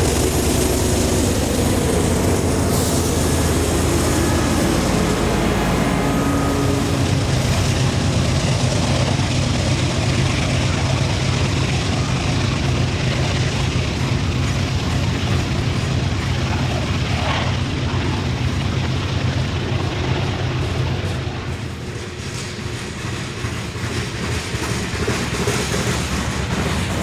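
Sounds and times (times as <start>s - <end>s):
diesel locomotive hum: 0.0s - 27.0s
steel wheels clattering on rails: 0.0s - 27.0s.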